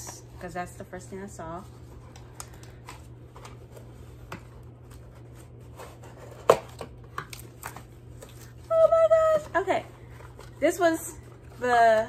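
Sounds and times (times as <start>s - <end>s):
ceiling fan humming: 0.0s - 12.0s
hands handling packaging: 1.6s - 12.0s.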